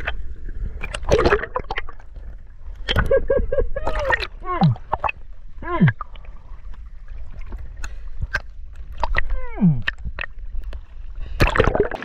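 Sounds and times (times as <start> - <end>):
water sloshing and gurgling: 0.0 - 12.0.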